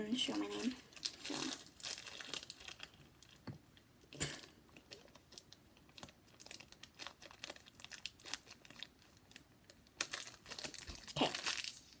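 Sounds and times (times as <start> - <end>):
slime crinkling in plastic bag: 0.0 - 12.0.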